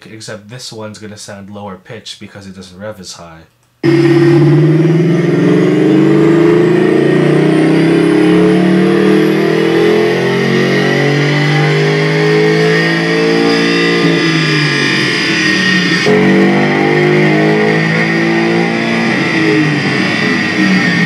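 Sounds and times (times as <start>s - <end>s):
car engine at full throttle: 3.8s - 21.0s.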